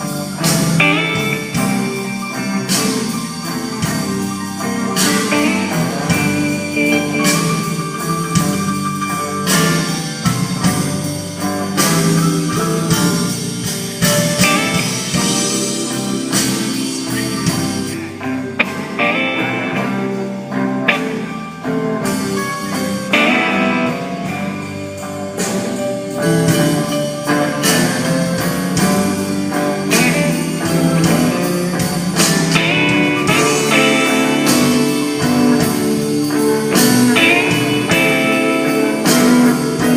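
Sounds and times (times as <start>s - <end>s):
blues-rock band playing: 0.0s - 39.9s
electric guitar: 0.0s - 39.9s.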